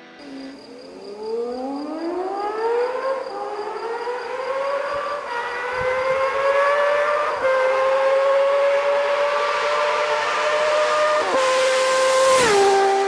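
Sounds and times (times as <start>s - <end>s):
motorcycle engine accelerating: 1.3s - 13.0s.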